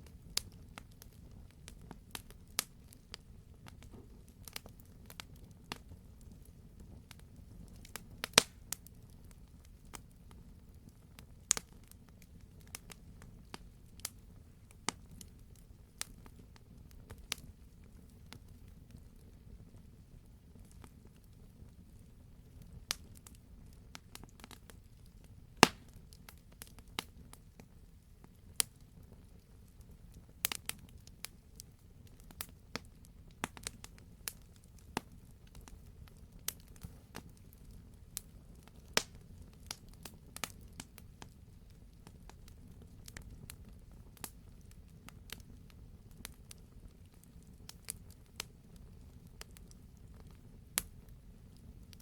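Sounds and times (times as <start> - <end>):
wood fire pops and snaps: 0.0 - 19.8, 20.6 - 52.0
low rumble of burning: 0.0 - 52.0.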